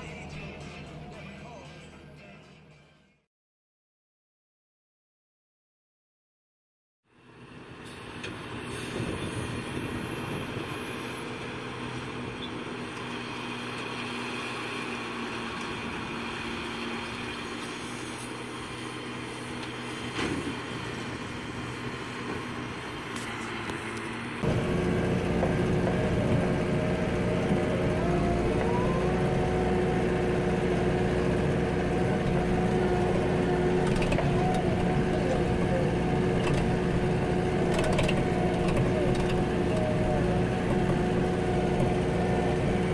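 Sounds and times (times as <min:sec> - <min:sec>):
tractor engine from inside cab: 0:00.0 - 0:02.2, 0:07.2 - 0:42.9
tractor engines running: 0:00.0 - 0:02.6, 0:07.1 - 0:42.9.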